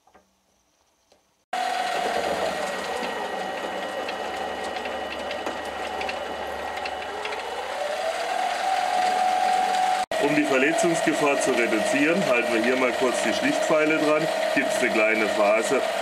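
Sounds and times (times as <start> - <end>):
lathe motor and gear whine: 1.6 - 16.0.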